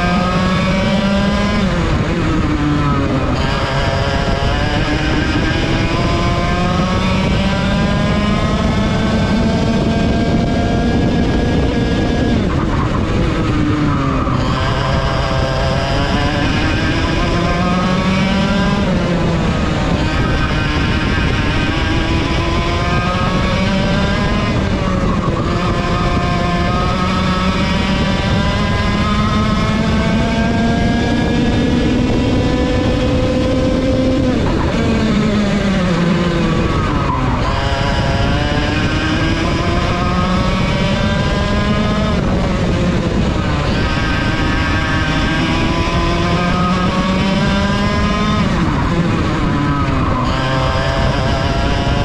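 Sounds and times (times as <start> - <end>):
kart engine accelerating: 0.0 - 52.0.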